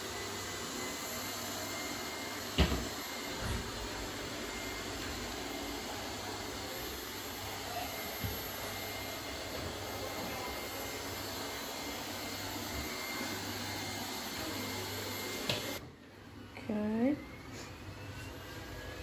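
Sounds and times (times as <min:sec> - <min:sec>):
robot vacuum whirring: 0:00.0 - 0:15.8.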